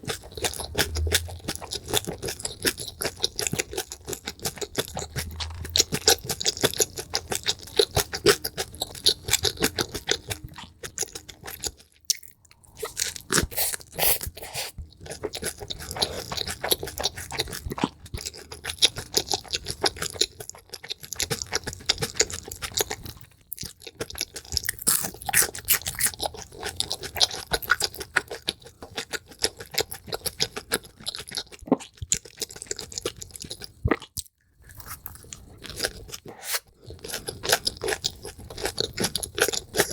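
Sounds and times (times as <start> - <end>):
crunchy chewing and biting: 0.0 - 39.9.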